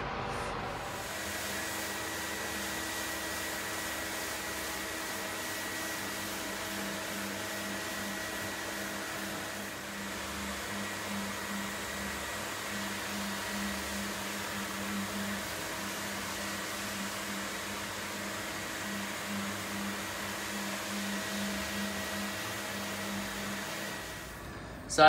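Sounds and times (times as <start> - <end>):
dust extraction air rush: 0.0 - 25.0
floor sanding machine motor hum: 0.0 - 25.0.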